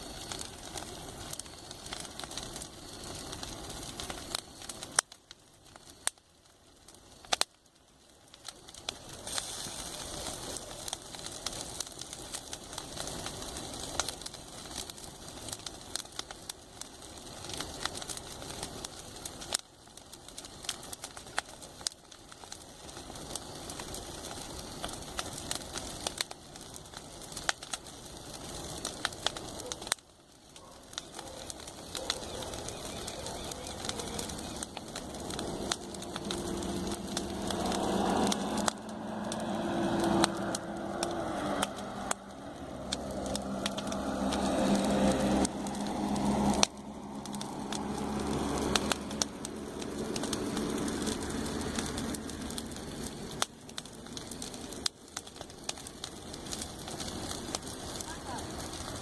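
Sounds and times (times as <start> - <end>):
burning wood popping: 0.0 - 59.0
campfire crackling: 0.0 - 59.0.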